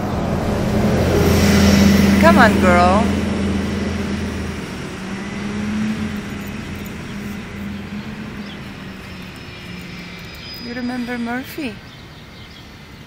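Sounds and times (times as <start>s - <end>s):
traffic noise: 0.0s - 13.0s
vehicle engine hum: 0.0s - 13.0s.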